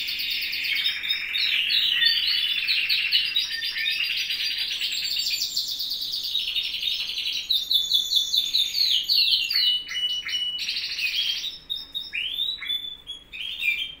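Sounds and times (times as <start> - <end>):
songbirds trilling: 0.0 - 14.0.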